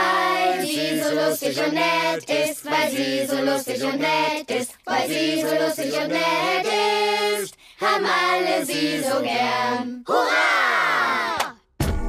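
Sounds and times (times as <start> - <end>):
cartoon chorus singing: 0.0 - 11.6.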